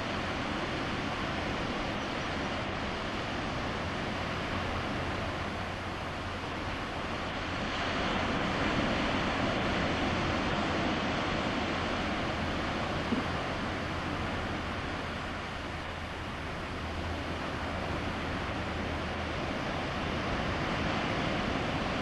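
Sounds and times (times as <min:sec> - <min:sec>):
distant surf: 0:00.0 - 0:22.0
wind: 0:00.0 - 0:22.0.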